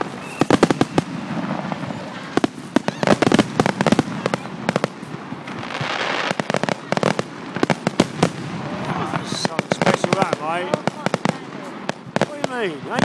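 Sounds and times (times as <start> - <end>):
fireworks banging and crackling: 0.0 - 13.0
hissing rush: 0.0 - 13.0.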